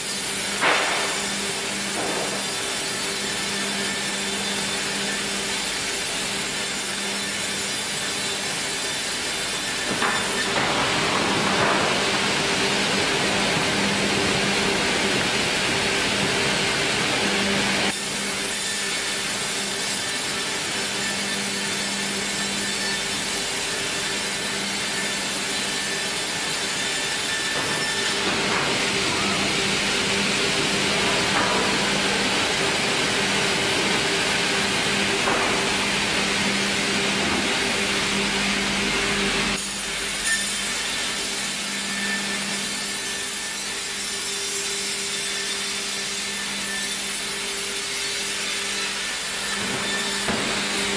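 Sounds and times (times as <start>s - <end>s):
saw blade cutting log: 0.0s - 12.7s, 17.9s - 50.9s
sawmill motors humming: 0.0s - 43.9s.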